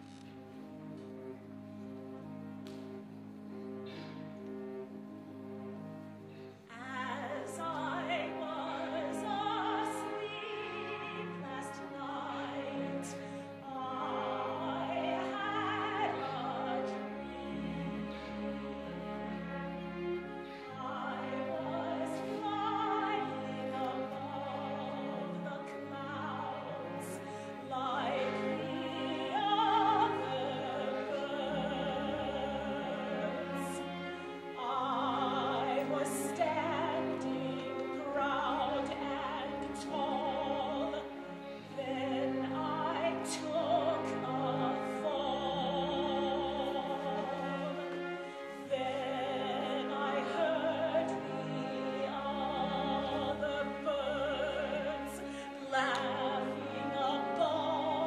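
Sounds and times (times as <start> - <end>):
orchestral accompaniment: 0.0 - 58.0
operatic singing with vibrato: 4.8 - 58.0.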